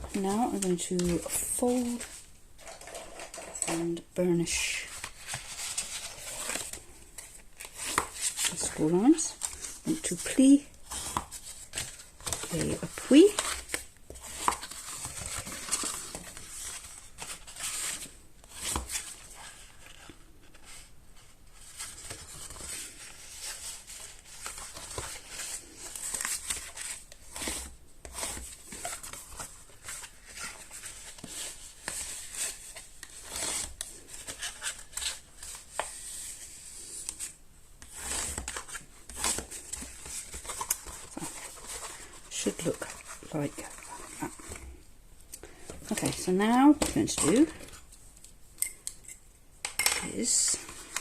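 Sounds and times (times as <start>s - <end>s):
paper rustling and creasing: 0.0s - 48.4s, 50.1s - 51.0s.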